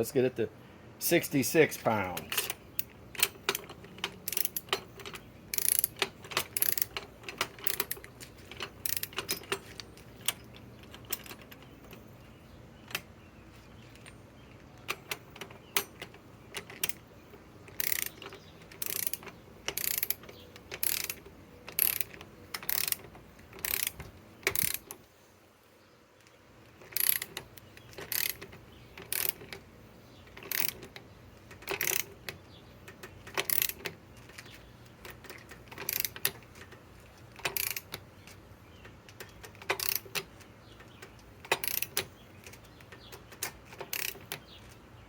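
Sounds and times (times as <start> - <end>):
ratchet pawl clicks: 2.2 - 12.0, 14.8 - 25.0, 26.6 - 44.8.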